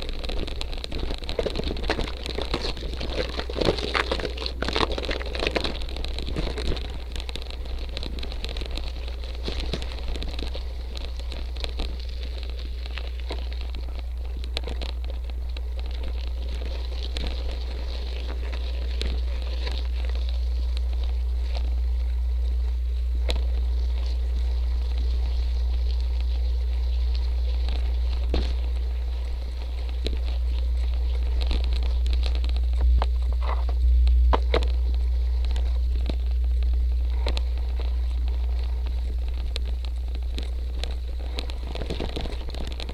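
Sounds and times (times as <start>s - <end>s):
bike tyres rolling on gravel: 0.0s - 42.9s
low wind rumble: 0.0s - 42.9s
small stones crackling: 0.0s - 42.9s.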